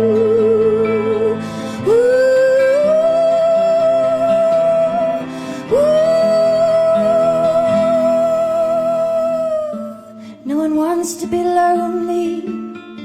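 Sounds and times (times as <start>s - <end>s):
singer holding wordless notes: 0.0s - 12.6s.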